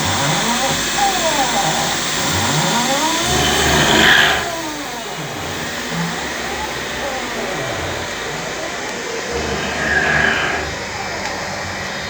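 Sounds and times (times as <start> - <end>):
milling machine motors whining: 0.0 - 12.0.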